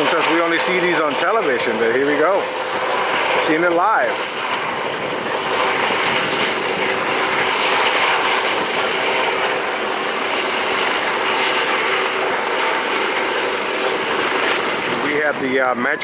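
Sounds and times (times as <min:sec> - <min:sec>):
helicopter rotor noise: 0:00.0 - 0:16.0.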